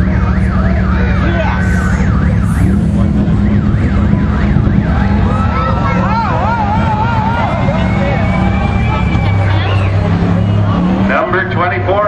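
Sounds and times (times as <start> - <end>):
car engines rumbling: 0.0 - 12.0
yelping siren: 0.1 - 10.9.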